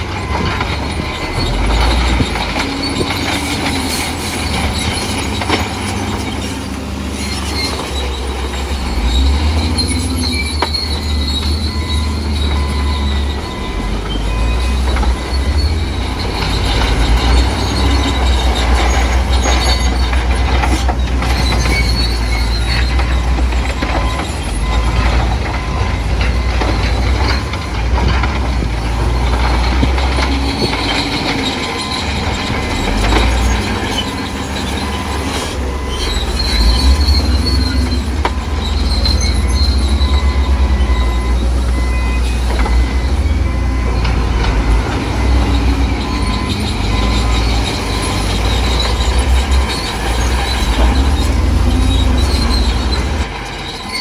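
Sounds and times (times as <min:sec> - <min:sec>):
bulldozer engine rumbling: 0:00.0 - 0:54.0
steel tracks squealing and clanking: 0:00.0 - 0:54.0.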